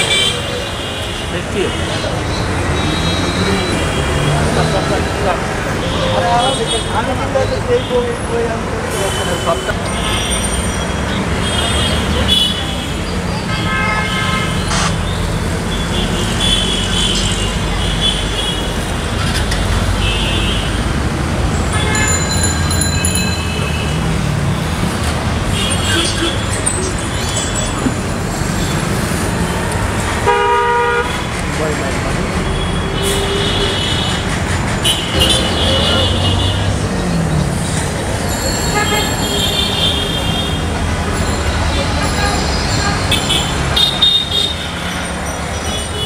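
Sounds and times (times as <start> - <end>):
traffic engines rumbling: 0.0 - 46.0.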